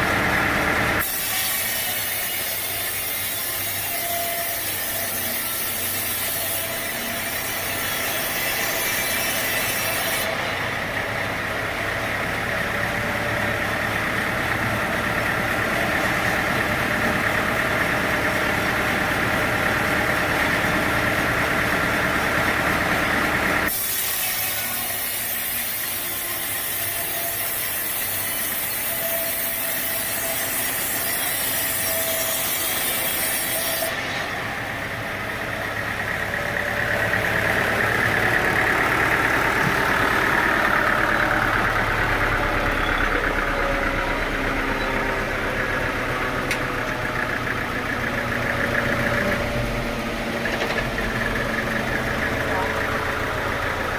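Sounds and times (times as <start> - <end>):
engine running steadily: 0.0 - 53.9
saw cutting through log: 0.0 - 53.9.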